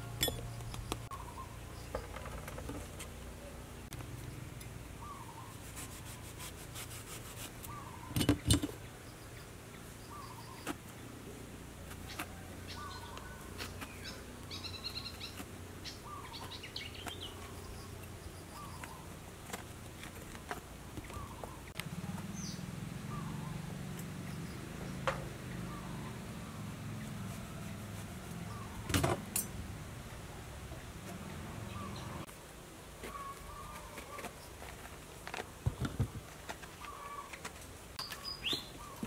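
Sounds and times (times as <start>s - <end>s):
birds chirping: 0.0s - 5.7s, 7.6s - 27.2s, 28.4s - 29.5s, 30.3s - 32.3s, 33.0s - 34.8s, 35.6s - 39.0s.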